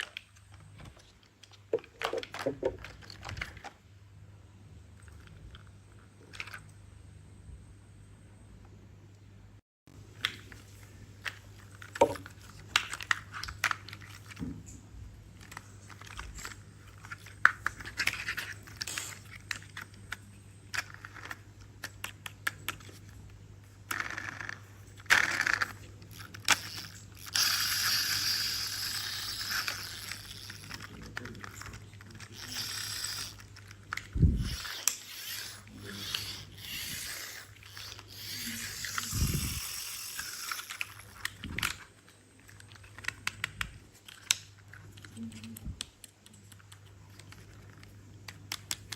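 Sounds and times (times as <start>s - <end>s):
plastic toys clicking and knocking: 0.0s - 3.8s, 5.0s - 6.8s, 11.2s - 48.9s.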